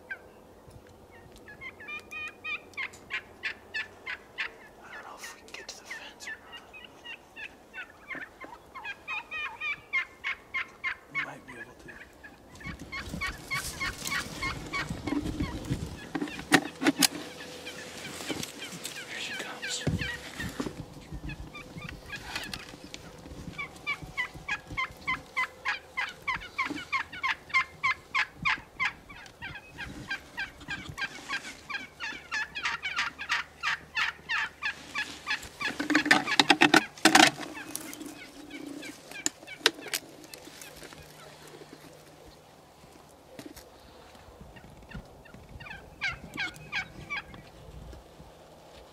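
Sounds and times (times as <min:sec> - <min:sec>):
wild turkey yelping: 0:00.0 - 0:00.3, 0:01.1 - 0:42.4, 0:44.6 - 0:47.5.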